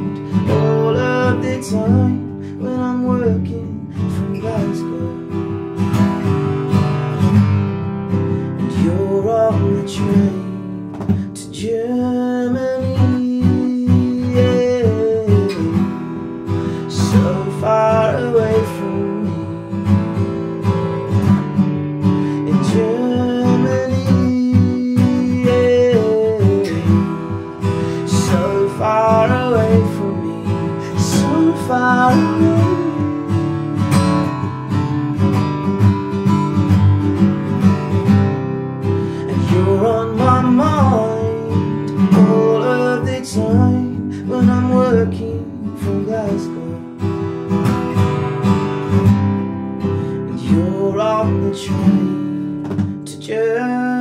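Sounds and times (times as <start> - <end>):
man singing: 0.0 - 6.0, 8.3 - 21.2, 22.0 - 34.6, 39.0 - 49.0, 49.9 - 54.0
acoustic guitar strumming: 0.0 - 54.0.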